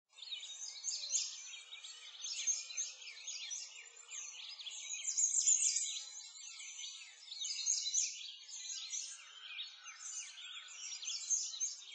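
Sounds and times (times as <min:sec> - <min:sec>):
songbirds chirping and trilling: 0:00.1 - 0:11.9.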